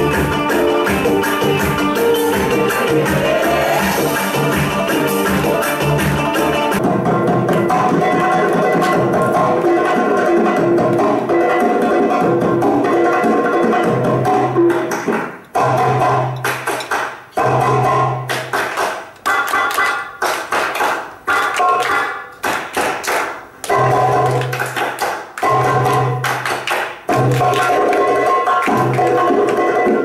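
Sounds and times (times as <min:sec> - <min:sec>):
belly-dance music over loudspeaker: 0:00.0 - 0:30.0.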